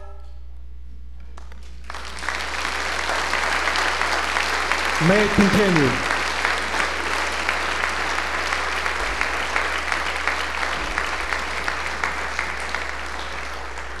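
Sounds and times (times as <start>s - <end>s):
audience applauding: 1.8s - 14.0s.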